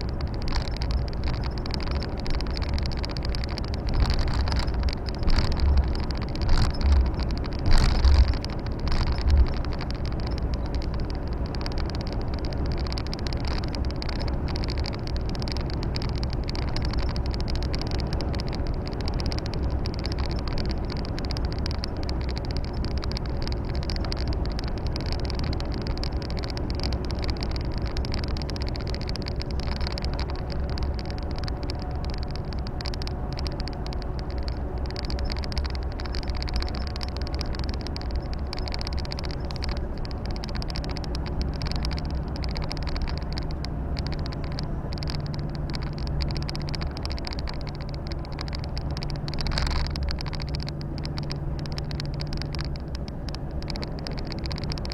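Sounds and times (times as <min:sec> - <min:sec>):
truck diesel engine rumbling: 0:00.0 - 0:54.9
tyre and road noise: 0:00.0 - 0:54.9.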